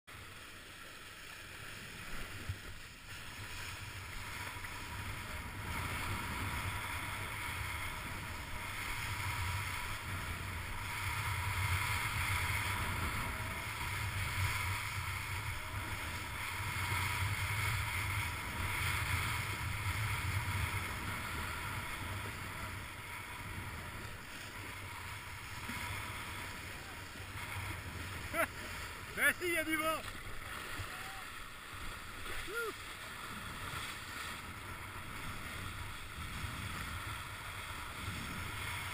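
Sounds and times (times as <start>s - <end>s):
wind rumbling on microphone: 2.0s - 38.9s.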